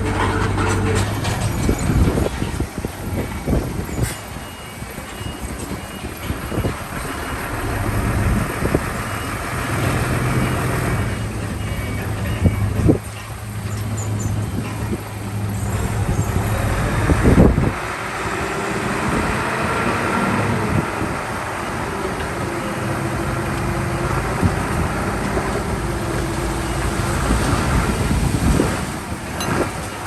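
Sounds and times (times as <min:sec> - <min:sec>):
heavy diesel machinery working: 0:00.0 - 0:30.0.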